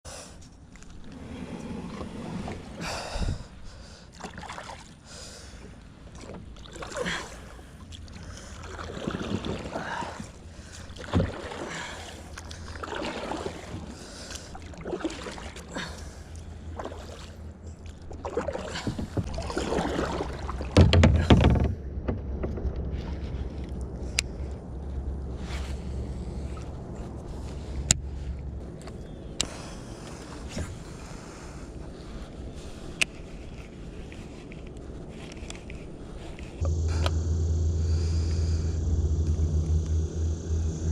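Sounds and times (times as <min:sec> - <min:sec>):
paddle strokes in water: 0:00.1 - 0:37.2.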